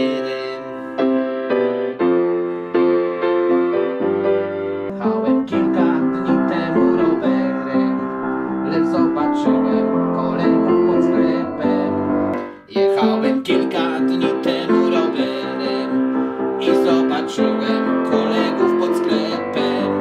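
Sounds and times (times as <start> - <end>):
upright piano playing: 0.0 - 20.0.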